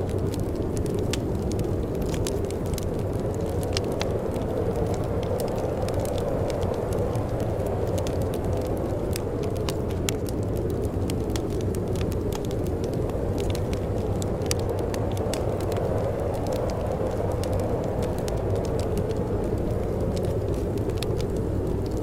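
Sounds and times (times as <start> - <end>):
wind rumbling: 0.0 - 22.0
wood fire crackling and popping: 0.0 - 22.0.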